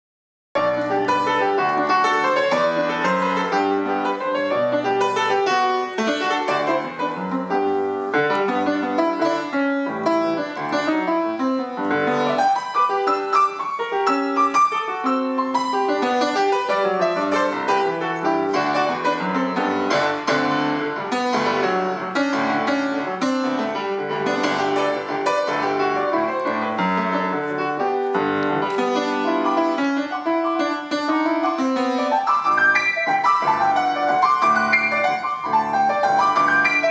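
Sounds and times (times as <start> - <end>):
solo grand piano: 0.6 - 36.9.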